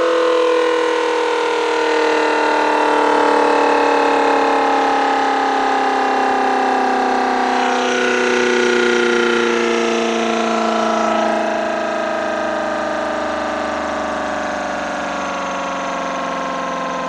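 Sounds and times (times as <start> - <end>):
siren horn two-tone chord: 0.0 - 17.0.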